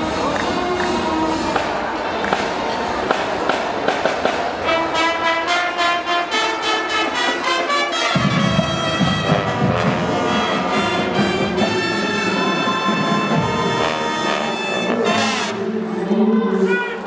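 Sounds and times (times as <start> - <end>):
brass band playing chords: 0.0 - 17.0.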